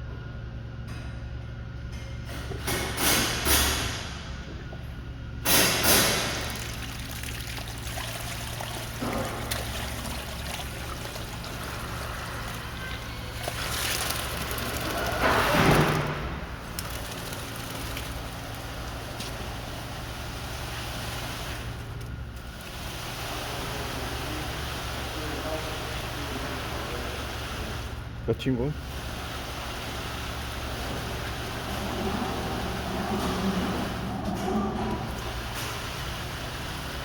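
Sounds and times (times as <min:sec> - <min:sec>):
concrete pump humming: 0:00.0 - 0:37.0
wet concrete pouring and sloshing: 0:05.5 - 0:37.0.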